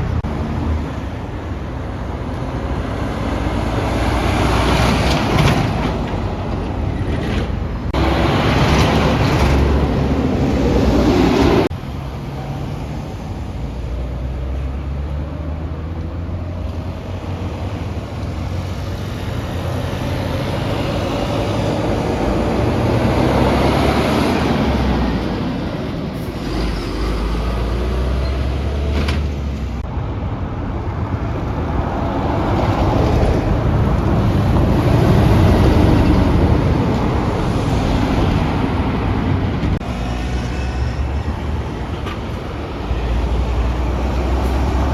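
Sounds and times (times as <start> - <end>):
heavy truck engine drone: 0.0 - 44.9
tyre and traffic noise: 0.0 - 44.9.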